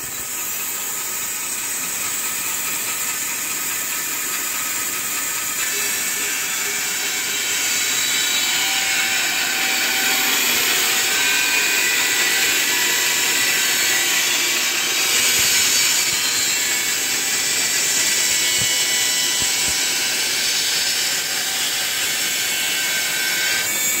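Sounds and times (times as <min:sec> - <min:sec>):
band sawmill cutting timber: 0:00.0 - 0:24.0.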